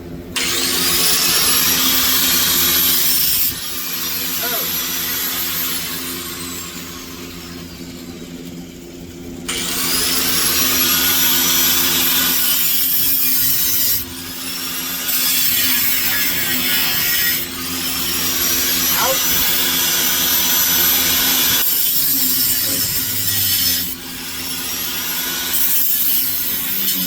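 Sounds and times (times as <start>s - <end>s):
angle grinder cutting metal: 0.4s - 27.0s.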